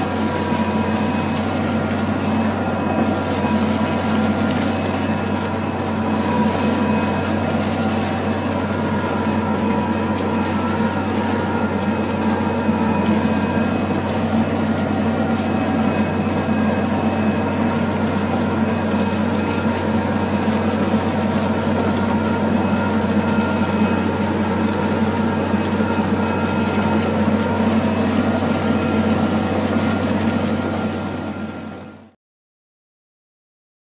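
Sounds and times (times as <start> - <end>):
tractor engine under load: 0.0 - 32.2.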